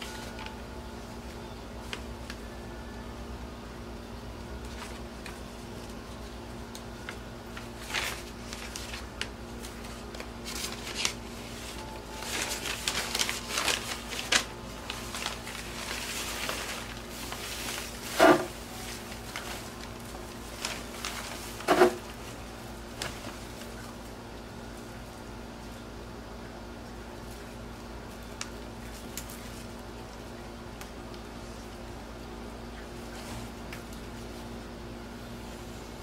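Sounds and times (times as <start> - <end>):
paper rustling and crinkling: 0.0 - 2.6, 4.6 - 25.0, 27.2 - 31.7, 32.8 - 34.6.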